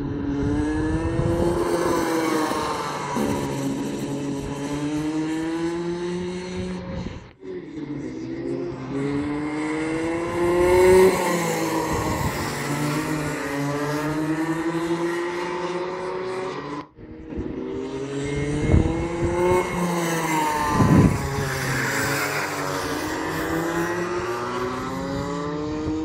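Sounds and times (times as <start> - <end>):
kart engine revving: 0.0 - 26.0.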